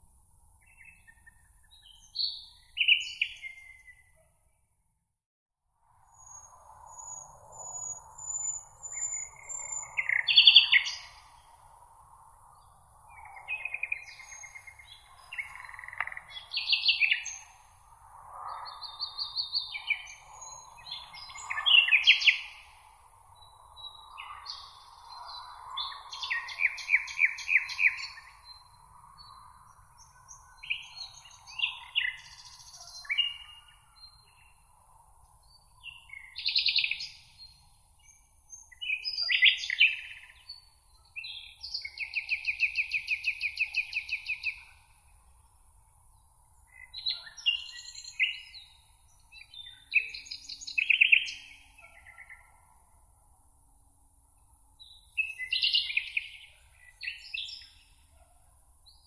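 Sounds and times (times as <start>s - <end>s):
songbirds singing: 0.5s - 4.6s, 6.1s - 53.3s, 54.2s - 59.0s.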